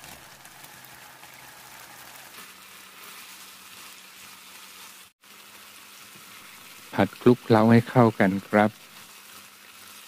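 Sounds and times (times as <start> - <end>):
sauce sizzling in frying pan: 0.0 - 10.0.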